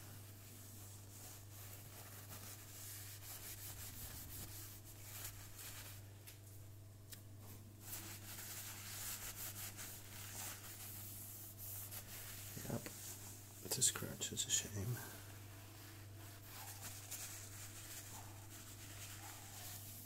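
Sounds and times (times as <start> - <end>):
paper towel rubbing turntable: 0.0 - 6.1, 7.8 - 20.0.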